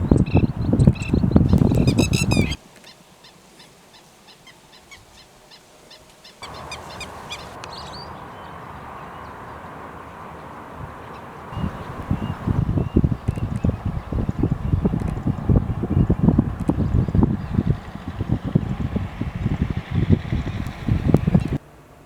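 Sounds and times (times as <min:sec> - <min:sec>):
wind buffeting microphone: 0:00.0 - 0:02.6, 0:06.4 - 0:21.6
birds chirping: 0:00.0 - 0:21.6
steady wind-like hiss: 0:00.0 - 0:22.0.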